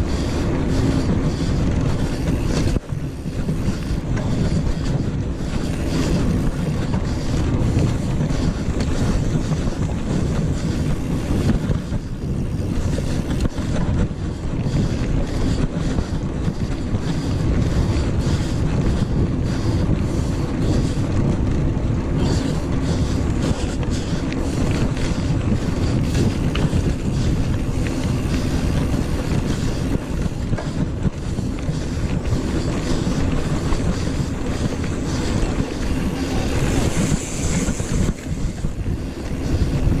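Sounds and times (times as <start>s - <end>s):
bike tyres rolling on dirt: 0.0s - 40.0s
wind buffeting microphone: 0.0s - 40.0s.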